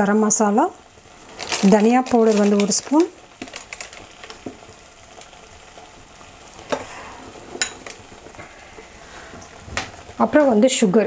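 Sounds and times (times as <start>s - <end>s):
gravy sizzling in a pan: 0.0s - 11.0s.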